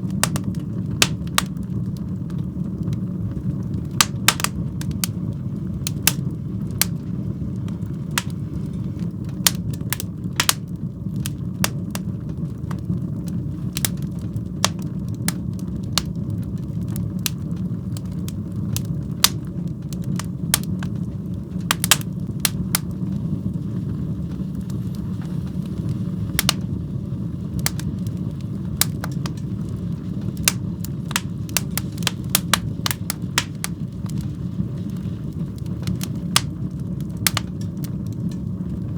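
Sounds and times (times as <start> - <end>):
fire low rumble: 0.0 - 38.9
fire popping and crackling: 0.0 - 38.9.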